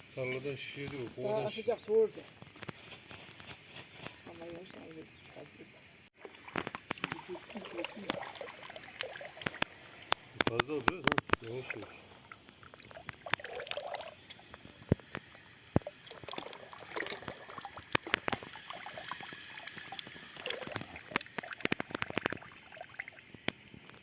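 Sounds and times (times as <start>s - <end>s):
liquid trickling: 0.1s - 24.0s.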